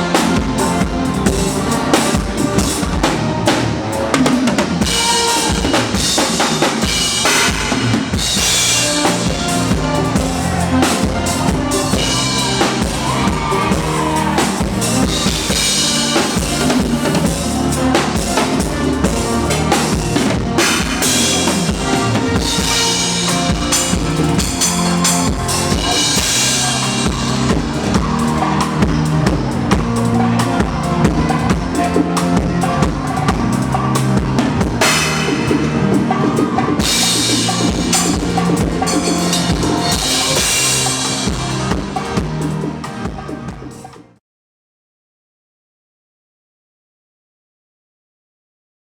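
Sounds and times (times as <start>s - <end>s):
bass drum: 0.0s - 43.9s
cymbals: 0.0s - 43.9s
sustained backing music: 0.0s - 44.2s.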